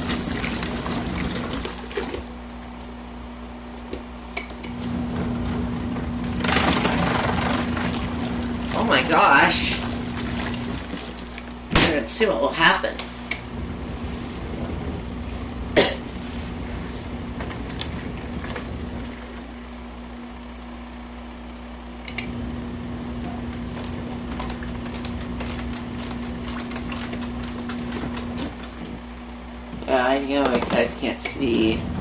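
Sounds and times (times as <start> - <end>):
water and laundry churning: 0.0 - 2.5, 4.7 - 20.0, 22.4 - 32.0
washing machine motor hum: 0.0 - 32.0.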